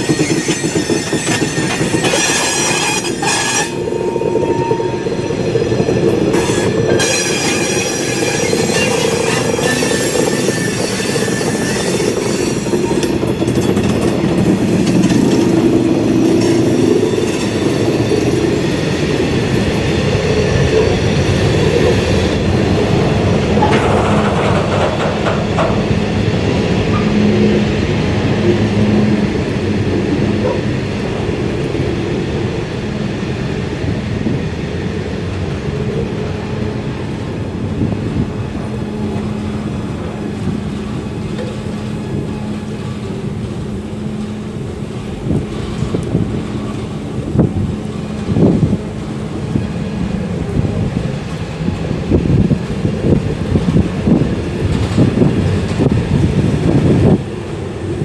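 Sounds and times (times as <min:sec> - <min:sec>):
steam train rumbling: 0:00.0 - 0:58.0.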